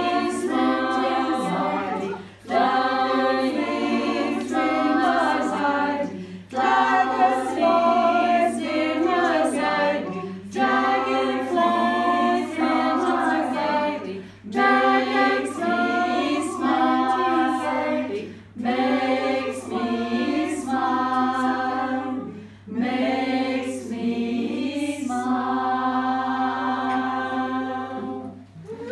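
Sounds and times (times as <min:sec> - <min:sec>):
group of voices singing: 0:00.0 - 0:28.9.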